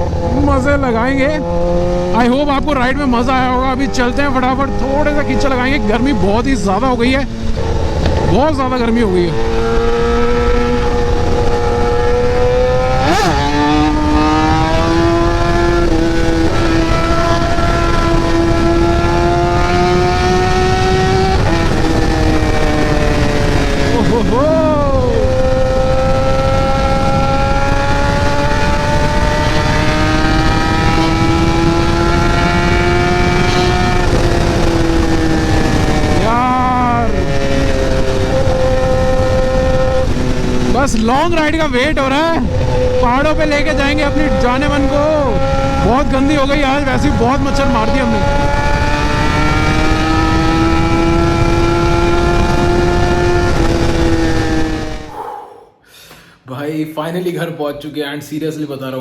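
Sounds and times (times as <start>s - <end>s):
wind rumble on microphone: 0.0s - 55.2s
motorcycle engine revving: 0.0s - 55.6s.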